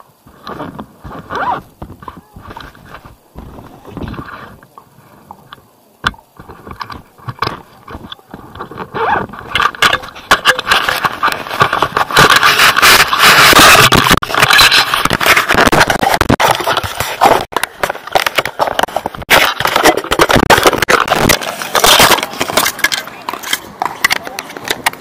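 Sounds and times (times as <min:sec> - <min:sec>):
phone microphone handling noise: 0:00.0 - 0:25.0.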